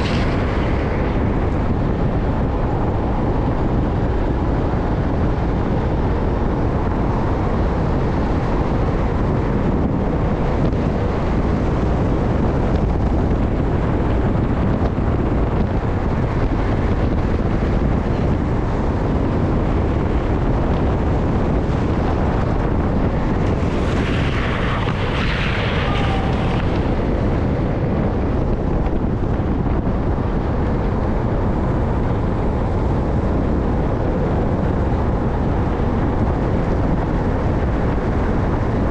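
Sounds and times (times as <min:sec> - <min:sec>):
skateboard wheels rolling on asphalt: 0:00.0 - 0:38.9
wind rush over microphone: 0:00.0 - 0:38.9.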